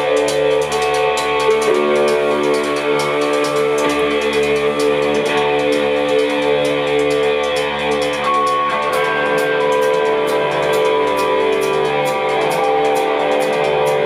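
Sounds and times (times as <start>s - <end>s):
electric guitars playing chords: 0.0s - 14.0s.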